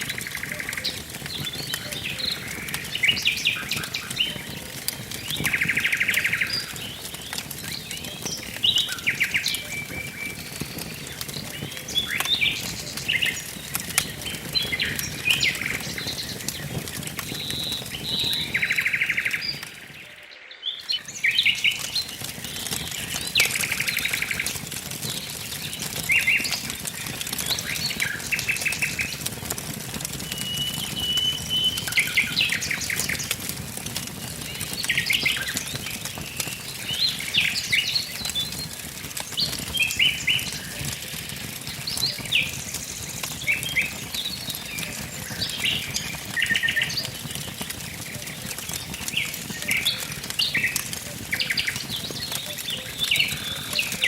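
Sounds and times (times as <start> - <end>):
songbirds singing: 0.0 - 54.0
wood fire crackling and popping: 0.0 - 54.0.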